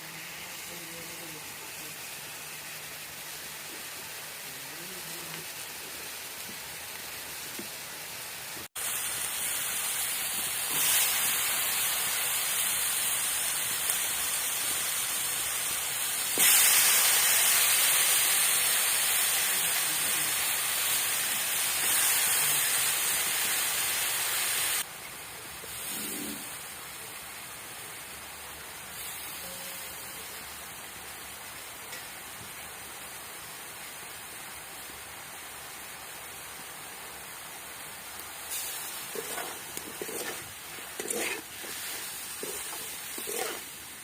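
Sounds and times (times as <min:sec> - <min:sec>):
steady hiss: 0:00.0 - 0:44.0.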